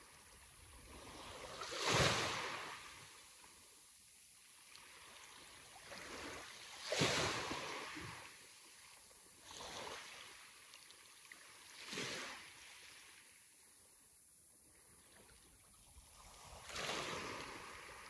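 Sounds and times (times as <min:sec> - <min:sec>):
sea waves breaking on shore: 0:00.2 - 0:03.6, 0:04.5 - 0:10.6, 0:11.2 - 0:13.5, 0:15.0 - 0:18.0.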